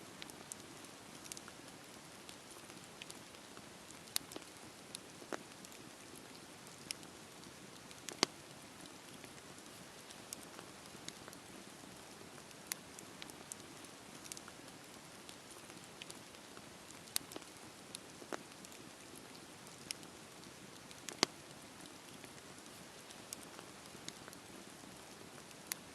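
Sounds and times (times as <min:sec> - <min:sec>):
wood crackling and popping: 0:00.1 - 0:25.9.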